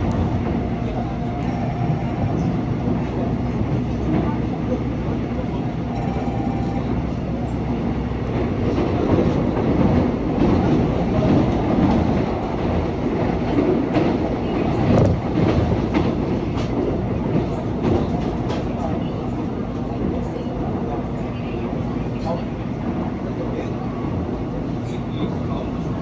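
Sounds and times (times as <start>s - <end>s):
electric train rumble: 0.0s - 26.0s.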